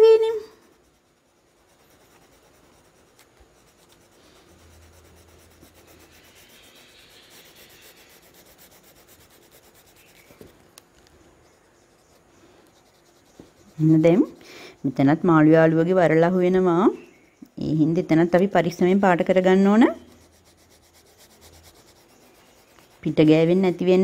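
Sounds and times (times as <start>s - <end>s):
oil pastel rubbing on paper: 0.0s - 24.0s.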